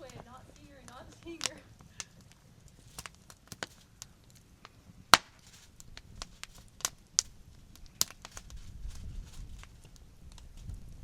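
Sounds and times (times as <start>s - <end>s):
campfire wood crackling: 0.0s - 11.0s.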